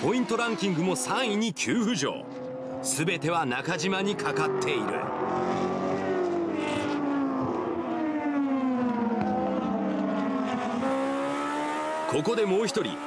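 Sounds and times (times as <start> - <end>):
race car engine at high revs: 0.0 - 1.4, 2.2 - 13.0.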